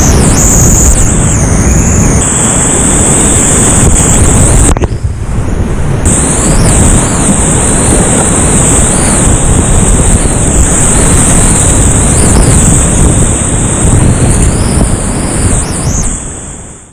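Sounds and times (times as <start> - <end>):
whitewater rushing: 0.0 - 16.8.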